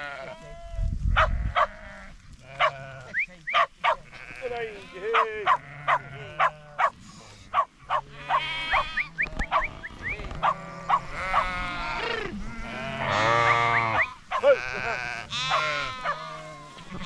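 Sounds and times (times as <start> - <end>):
ewes bleating: 0.0 - 17.0
lambs bleating: 0.0 - 17.0.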